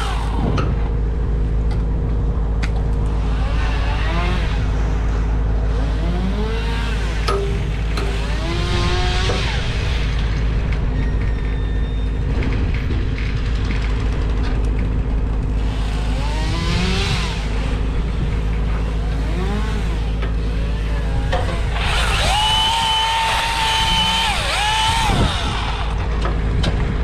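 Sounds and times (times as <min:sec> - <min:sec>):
engine running and revving: 0:00.0 - 0:27.0.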